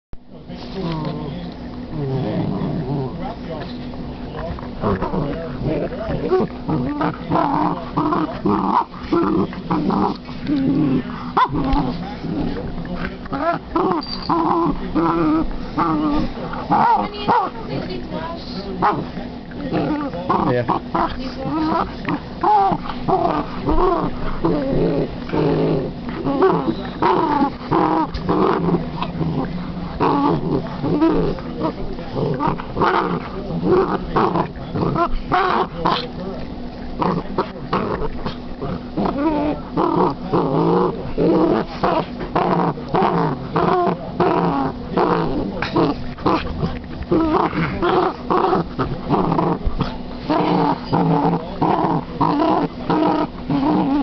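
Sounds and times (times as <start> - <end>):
dog growling playfully: 0.6 - 54.0.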